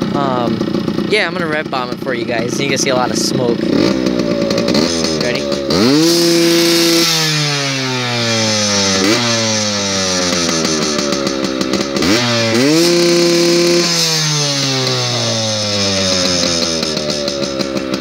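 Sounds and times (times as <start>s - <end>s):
two-stroke dirt bike engine revving: 0.0s - 18.0s.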